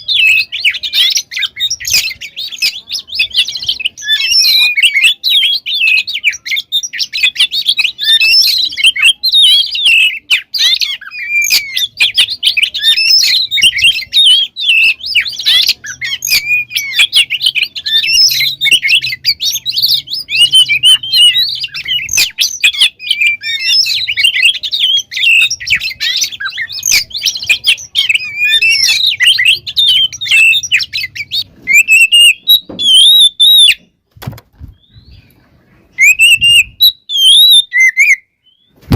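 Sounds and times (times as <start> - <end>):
songbird singing varied song: 0.0 - 34.0, 34.6 - 38.8.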